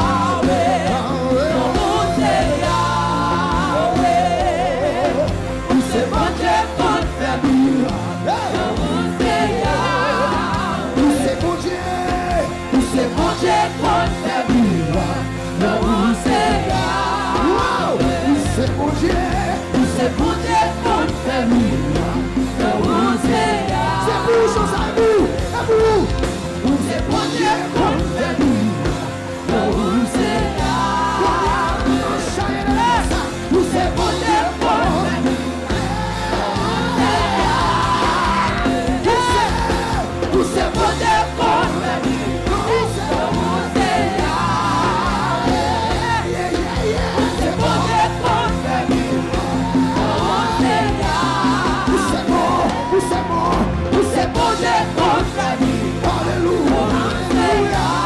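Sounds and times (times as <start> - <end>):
backing choir: 0.0 - 58.0
electric guitar: 0.0 - 58.0
keyboard: 0.0 - 58.0
lead singer: 0.0 - 58.0.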